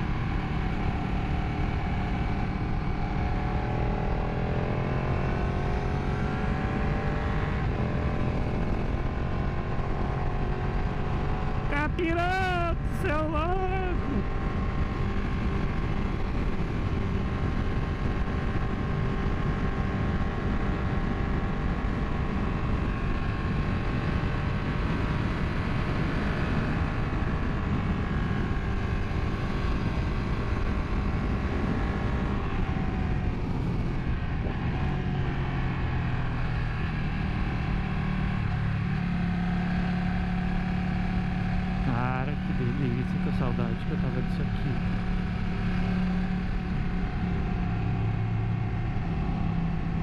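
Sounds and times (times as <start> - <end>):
motorcycle engine running hard: 0.0 - 50.0.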